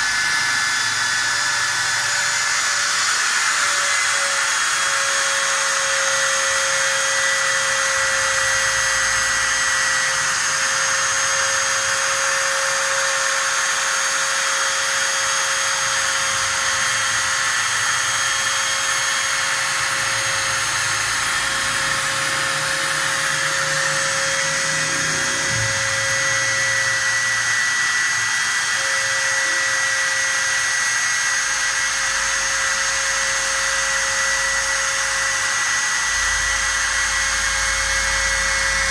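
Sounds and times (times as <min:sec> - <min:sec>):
cutting machine whining: 0:00.0 - 0:38.9.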